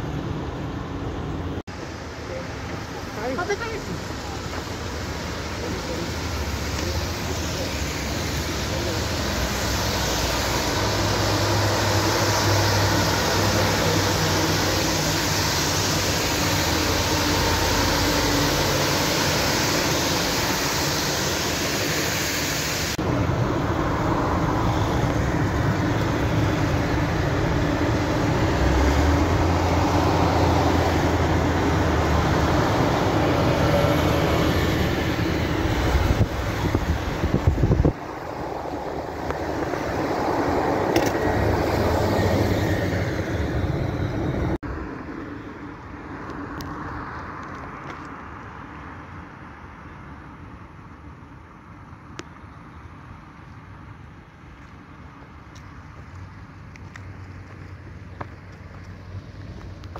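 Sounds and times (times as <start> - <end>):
diesel engine hum: 0.0 - 59.9
road noise inside a car: 0.0 - 59.9
tyre noise on wet road: 0.0 - 59.9.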